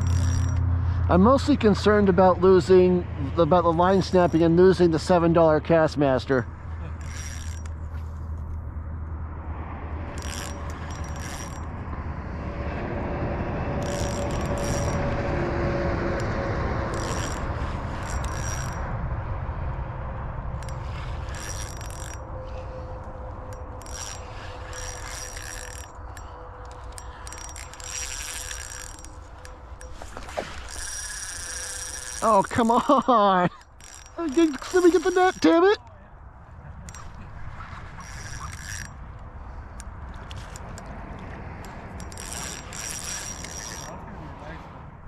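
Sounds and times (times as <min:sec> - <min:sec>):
fishing reel cranking and ratcheting: 0:00.0 - 0:08.6, 0:10.1 - 0:11.7, 0:13.8 - 0:15.1, 0:16.2 - 0:18.9, 0:20.5 - 0:35.8, 0:36.9 - 0:37.2, 0:37.8 - 0:44.0.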